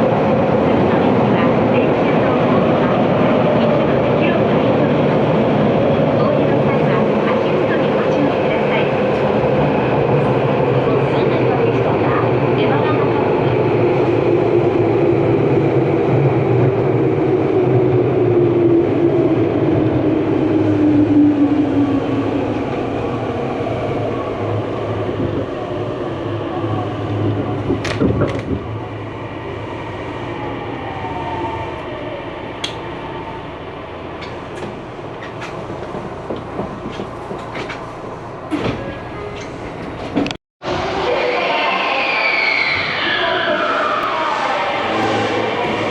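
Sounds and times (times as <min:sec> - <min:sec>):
train rumble on rails: 0:00.0 - 0:45.9.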